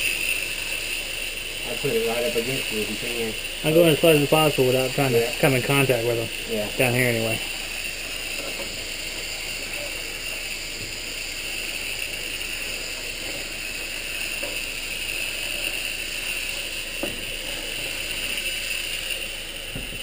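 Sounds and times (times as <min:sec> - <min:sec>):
spray gun hissing: 0:00.0 - 0:20.0.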